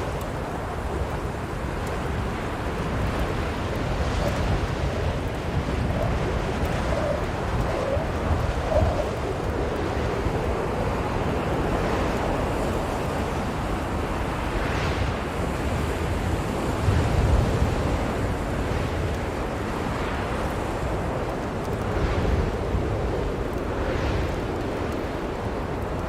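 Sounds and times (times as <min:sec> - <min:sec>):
blizzard wind rumbling: 0:00.0 - 0:26.0.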